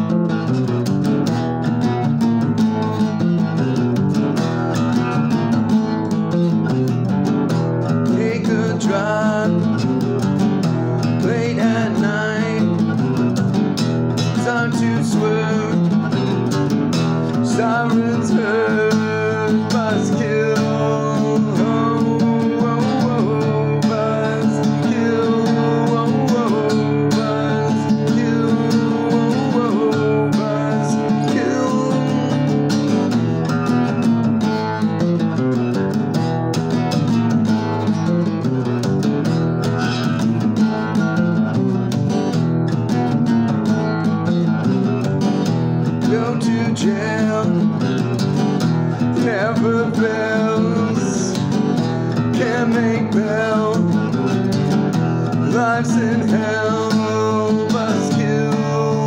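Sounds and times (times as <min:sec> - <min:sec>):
country music with acoustic guitar: 0:00.0 - 0:59.0.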